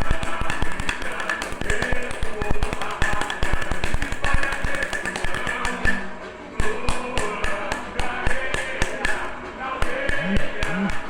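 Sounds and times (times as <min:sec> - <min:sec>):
tamborims playing fast rhythm: 0:00.0 - 0:11.0.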